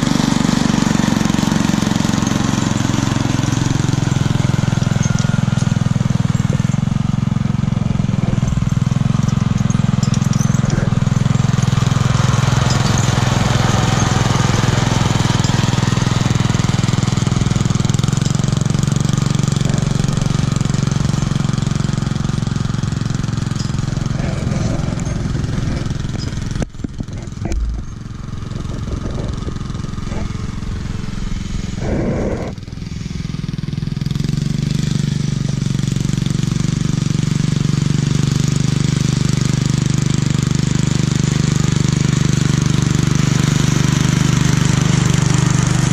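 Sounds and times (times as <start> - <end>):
small tractor engine running: 0.0 - 45.9.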